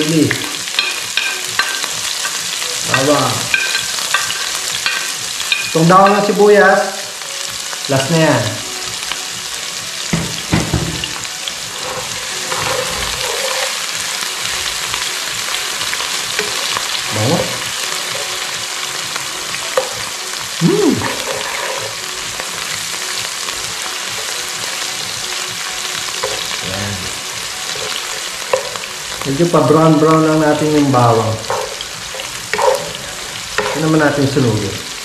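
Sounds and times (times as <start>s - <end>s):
vegetables sizzling in hot oil: 0.0s - 35.0s.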